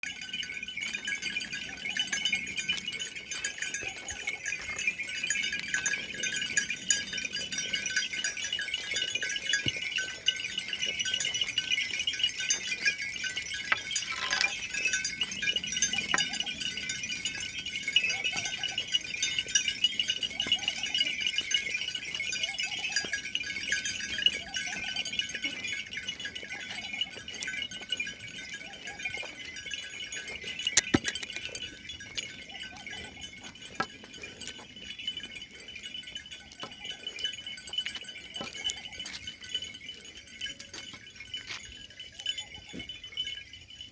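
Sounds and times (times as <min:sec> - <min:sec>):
high fluttering jingle and clink: 0:00.0 - 0:43.9.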